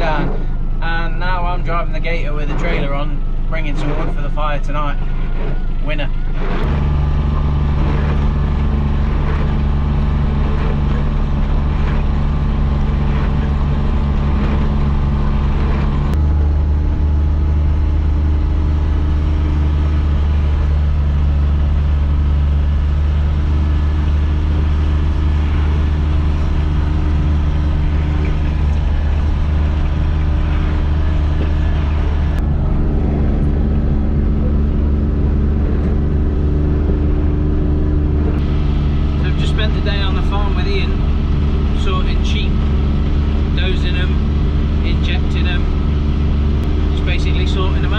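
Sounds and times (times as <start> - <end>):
utility vehicle engine running: 0.0 - 47.9.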